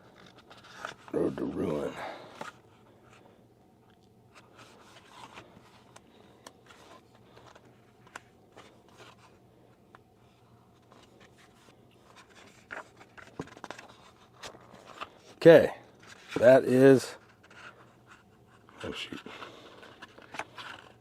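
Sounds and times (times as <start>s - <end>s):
book pages turning: 0.0s - 3.2s, 4.3s - 16.6s, 17.2s - 21.0s.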